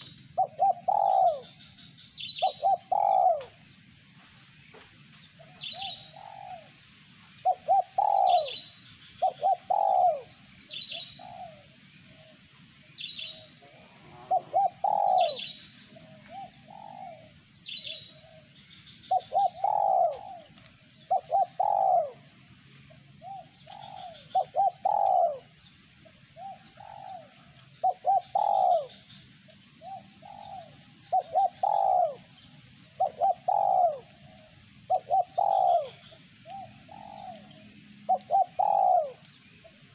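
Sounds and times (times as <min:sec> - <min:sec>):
dove cooing: 0:00.0 - 0:03.7, 0:05.4 - 0:22.3, 0:22.9 - 0:39.9
bird chirping: 0:00.0 - 0:39.9.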